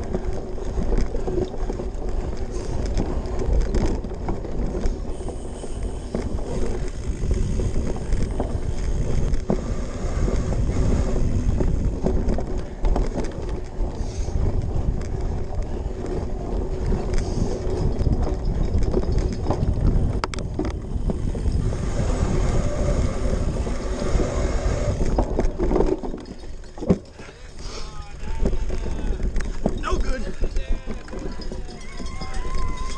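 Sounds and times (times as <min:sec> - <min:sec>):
bike chain rattling and clicking: 0:00.0 - 0:32.9
knobby bike tyres rumbling: 0:00.0 - 0:32.9
wind buffeting microphone: 0:00.0 - 0:32.9.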